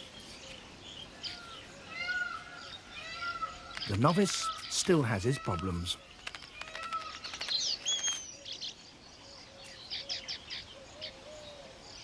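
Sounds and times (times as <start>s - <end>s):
birds chattering and chirping: 0.0s - 12.0s.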